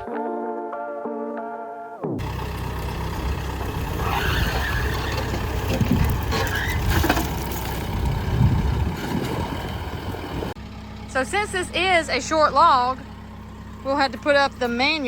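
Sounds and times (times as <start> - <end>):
engine running: 2.2 - 15.0.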